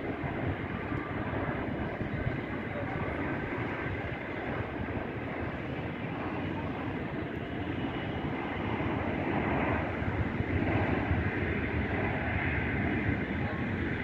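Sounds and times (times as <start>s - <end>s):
distant jet engine rumble: 0.0s - 14.0s.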